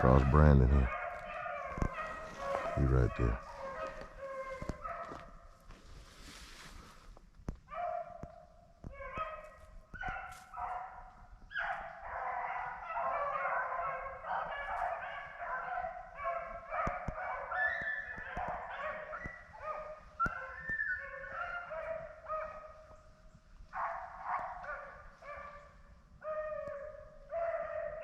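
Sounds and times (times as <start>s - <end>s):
pack of hounds baying: 0.0s - 5.4s, 7.8s - 23.0s, 23.6s - 28.0s.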